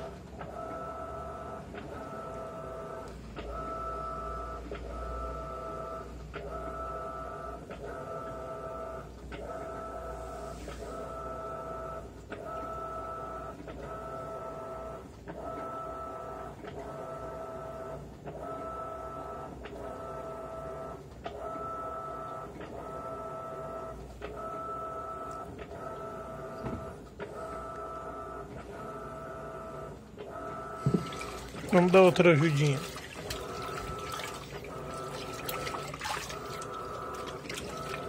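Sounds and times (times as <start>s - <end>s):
washing machine motor whine: 0.0s - 38.0s.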